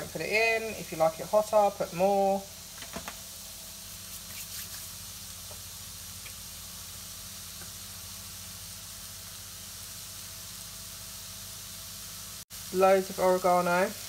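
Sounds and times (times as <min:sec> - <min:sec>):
vegetables sizzling in a pan: 0:00.0 - 0:14.0.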